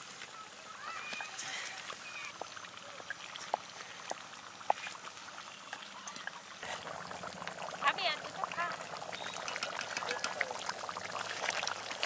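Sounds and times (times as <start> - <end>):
bread frying in bubbling oil: 0.0 - 12.0.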